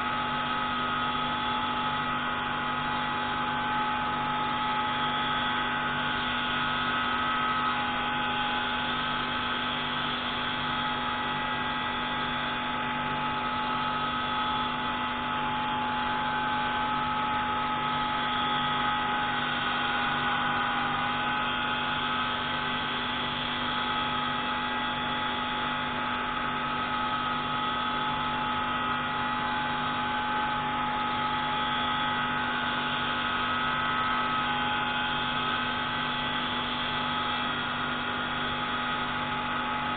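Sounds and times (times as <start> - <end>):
pneumatic grinder whining: 0.0 - 39.9.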